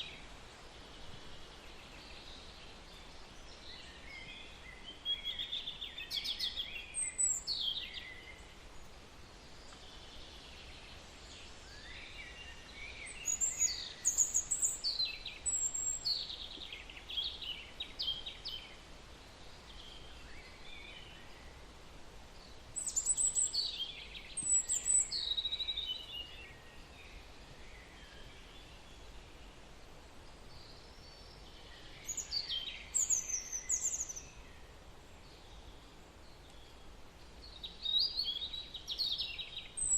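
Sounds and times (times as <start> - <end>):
faint steady hiss: 0.0 - 39.9
songbird chirping: 0.0 - 39.9.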